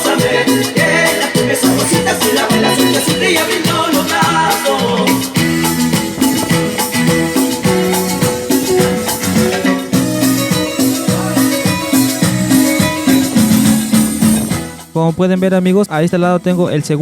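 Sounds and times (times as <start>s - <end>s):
loud latin dance music over speakers: 0.0s - 16.9s.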